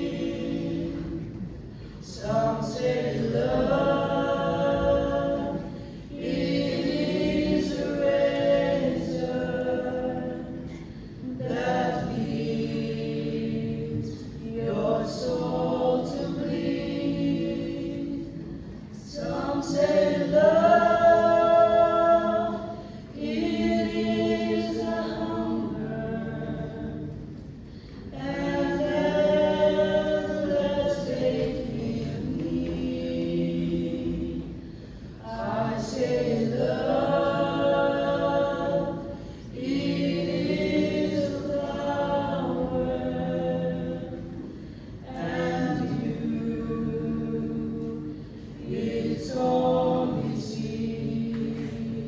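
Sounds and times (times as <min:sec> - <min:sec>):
vocal group singing in harmony: 0:00.0 - 0:52.0.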